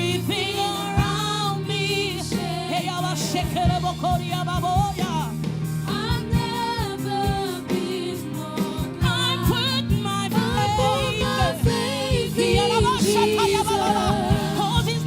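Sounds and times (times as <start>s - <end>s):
gospel choir singing: 0.0s - 4.5s, 5.8s - 15.0s
live band playing: 0.0s - 15.0s
drums steady beat: 0.6s - 8.0s, 8.8s - 15.0s.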